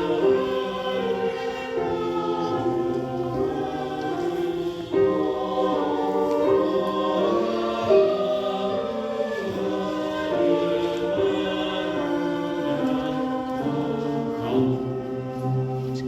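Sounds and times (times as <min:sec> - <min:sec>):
choir singing slow held notes: 0:00.0 - 0:16.0.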